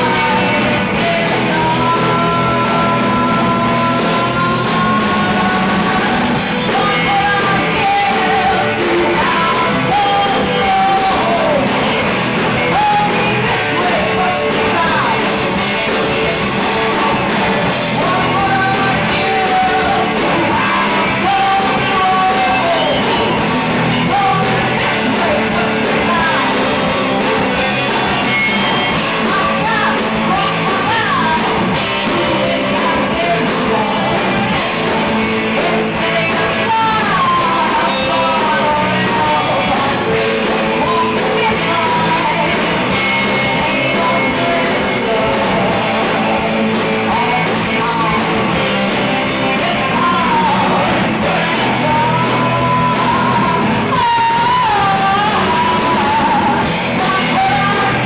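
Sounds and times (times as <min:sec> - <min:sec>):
bass guitar: 0:00.0 - 0:58.0
drum kit: 0:00.0 - 0:58.0
electric guitars: 0:00.0 - 0:58.0
woman singing: 0:00.0 - 0:58.0.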